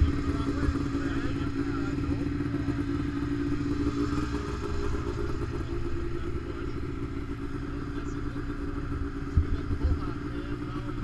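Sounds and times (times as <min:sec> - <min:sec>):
snowmobile engines idling: 0:00.0 - 0:11.0.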